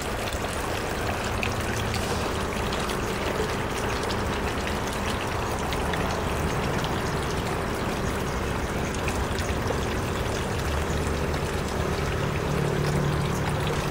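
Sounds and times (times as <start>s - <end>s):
water trickling and splashing: 0.0s - 13.9s.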